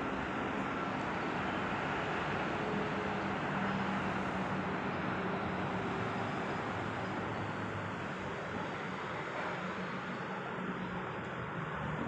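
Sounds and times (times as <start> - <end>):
city road traffic hum: 0.0 - 12.0.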